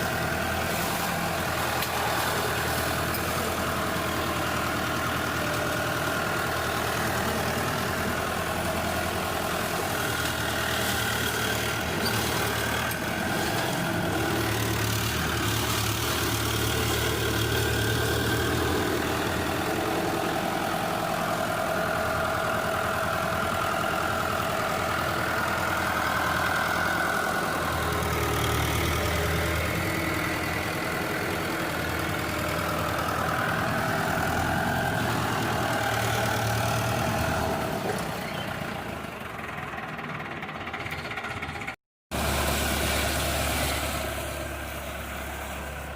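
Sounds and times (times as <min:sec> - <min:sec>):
tractor engine droning: 0:00.0 - 0:45.9.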